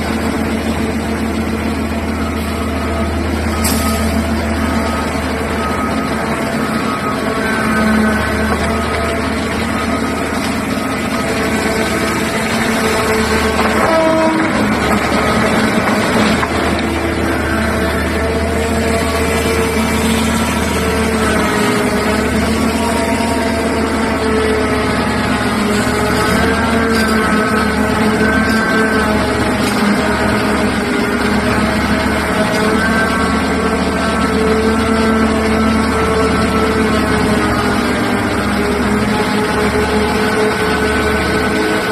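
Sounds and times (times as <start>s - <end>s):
excavator engine hum: 0.0s - 41.9s
whining tones shifting pitch: 0.0s - 41.9s.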